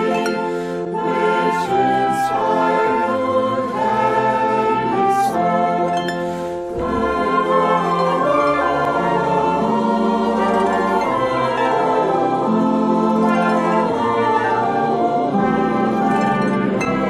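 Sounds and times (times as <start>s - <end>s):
slow sacred music with singing: 0.0s - 17.0s.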